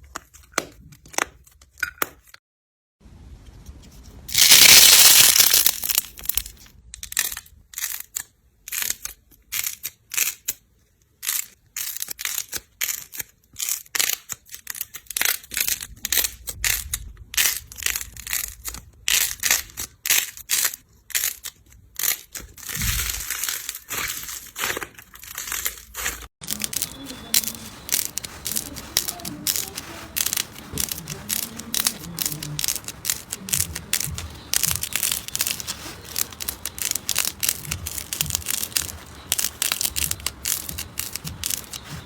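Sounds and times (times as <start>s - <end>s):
slime squishing and crackling: 4.3s - 10.5s, 11.2s - 42.0s.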